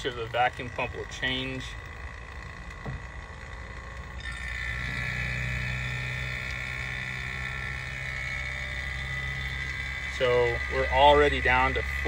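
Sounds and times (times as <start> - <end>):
high whine: 0.0 - 12.0
vacuum pump humming: 0.0 - 12.0.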